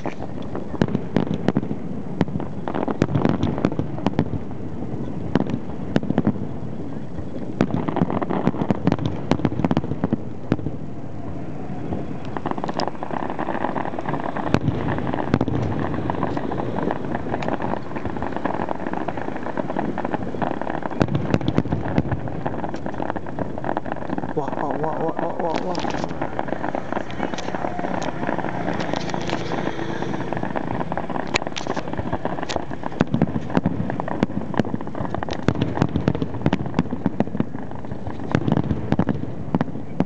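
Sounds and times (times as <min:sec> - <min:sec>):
fireworks crackling and bursting: 0:00.0 - 0:40.0
steady rumbling haze: 0:00.0 - 0:40.0.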